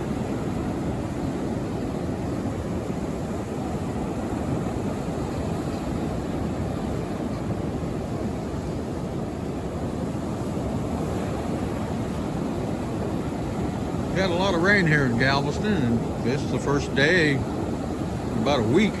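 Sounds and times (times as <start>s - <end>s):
surf breaking on beach: 0.0s - 19.0s
wind rumbling on microphone: 0.0s - 19.0s.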